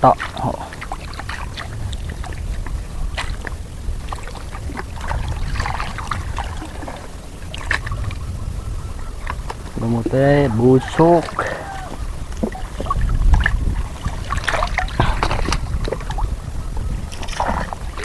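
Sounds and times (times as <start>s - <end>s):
water lapping and splashing: 0.0s - 18.0s
wind rumble on microphone: 0.0s - 18.0s.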